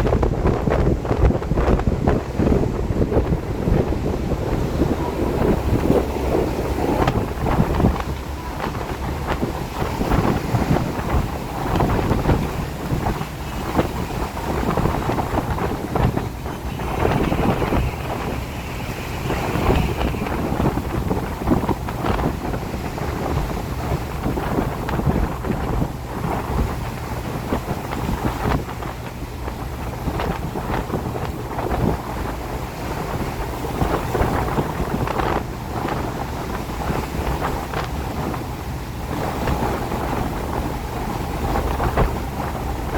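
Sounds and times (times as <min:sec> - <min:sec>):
rain: 0:00.0 - 0:42.9
wind buffeting microphone: 0:00.0 - 0:42.9
wind gusting: 0:00.0 - 0:42.9.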